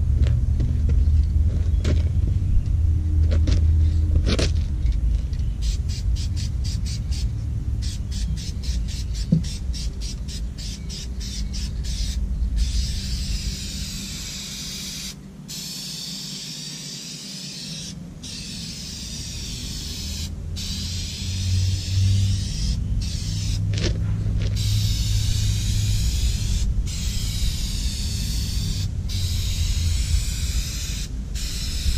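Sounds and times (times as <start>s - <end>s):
spray can hissing: 5.6s - 23.7s, 24.4s - 31.9s
spray can rattling when shaken: 5.6s - 23.7s, 24.3s - 31.9s.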